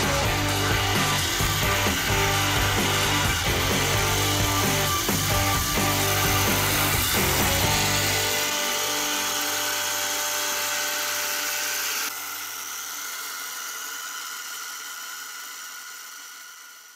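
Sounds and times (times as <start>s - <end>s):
abrasive belt whirring: 0.0s - 16.9s
electric motor running: 0.0s - 16.9s.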